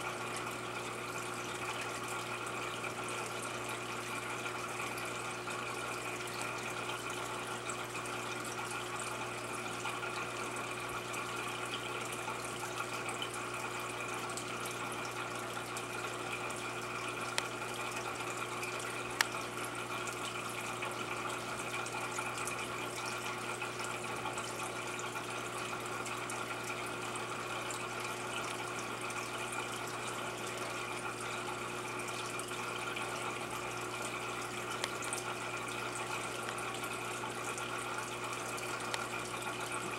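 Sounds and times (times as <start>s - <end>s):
low pump hum: 0.0s - 39.9s
water trickling and splashing: 0.1s - 39.9s.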